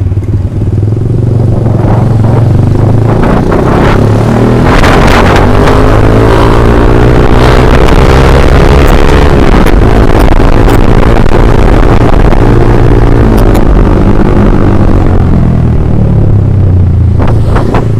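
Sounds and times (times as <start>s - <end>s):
motorcycle engine running loud: 0.0s - 17.9s.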